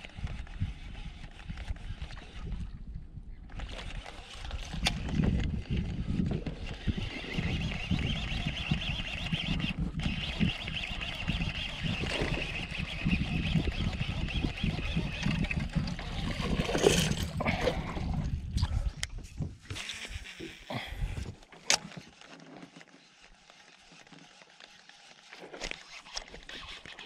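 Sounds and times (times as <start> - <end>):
fishing reel whirring: 3.5 - 18.3, 19.7 - 27.0.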